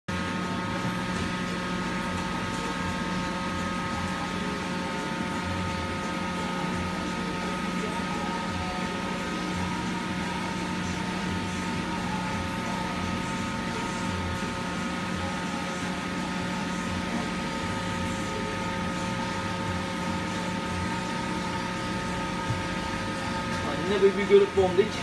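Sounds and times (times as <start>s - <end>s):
machinery humming: 0.1s - 25.0s.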